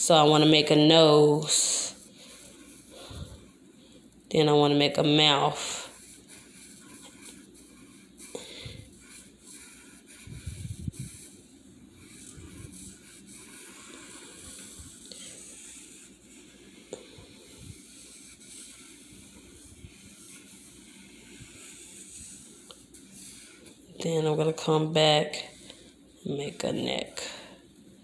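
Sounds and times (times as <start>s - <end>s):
felt-tip marker on paper: 0.2s - 3.6s, 4.4s - 27.4s.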